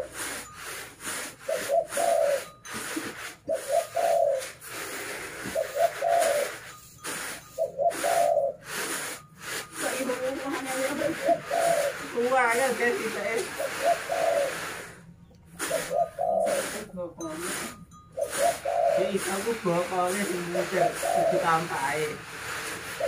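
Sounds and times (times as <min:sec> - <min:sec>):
rice rustling on winnowing trays: 0:00.0 - 0:23.0
dove cooing: 0:01.4 - 0:06.8, 0:07.5 - 0:09.0, 0:09.9 - 0:15.0, 0:15.6 - 0:22.2.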